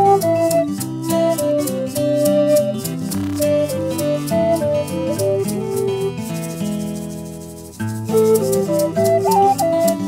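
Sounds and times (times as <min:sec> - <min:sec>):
plucked strings: 0:00.0 - 0:10.0
shaker: 0:00.0 - 0:10.0.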